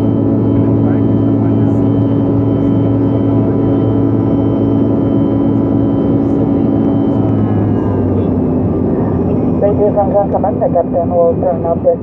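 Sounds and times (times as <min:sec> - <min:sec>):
airliner engines droning in cabin: 0:00.0 - 0:12.0.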